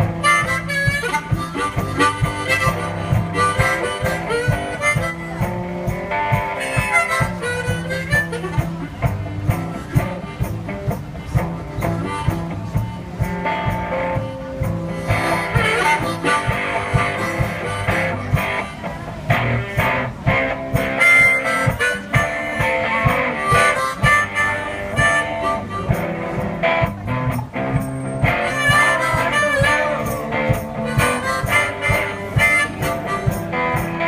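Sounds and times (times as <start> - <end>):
guitar: 0.0 - 34.0
harmonica lead: 0.0 - 34.0
steady drum beat: 0.0 - 34.0.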